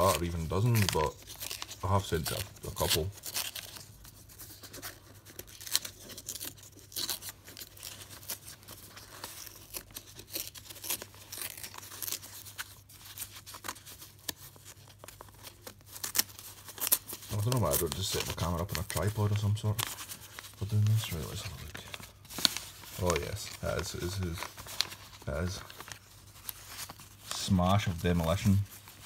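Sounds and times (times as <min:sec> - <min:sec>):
paper envelope tearing: 0:00.0 - 0:29.0.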